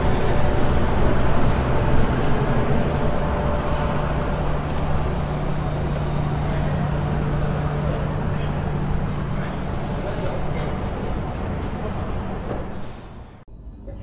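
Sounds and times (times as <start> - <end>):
train motor hum: 0.0 - 14.0
train running rumble: 0.0 - 14.0.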